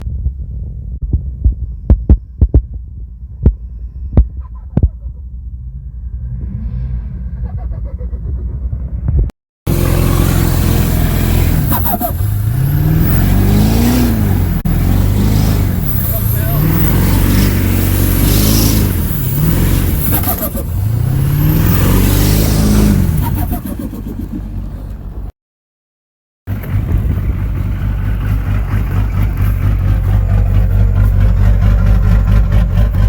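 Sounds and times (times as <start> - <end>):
diesel engine rumbling and revving: 0.0 - 25.4, 26.5 - 33.0.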